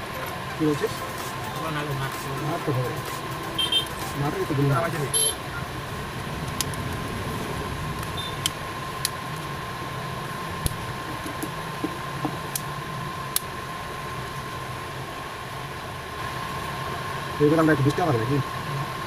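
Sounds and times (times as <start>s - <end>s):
mechanical hum with high whine: 0.0s - 19.0s.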